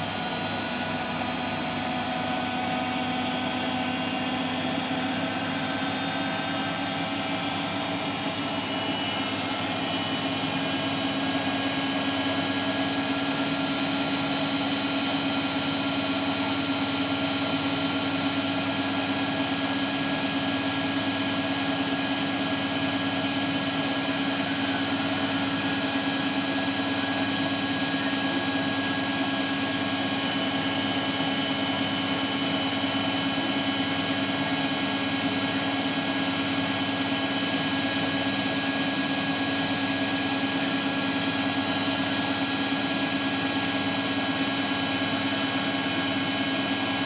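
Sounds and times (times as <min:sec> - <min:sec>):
washing machine spinning: 0:00.0 - 0:47.0.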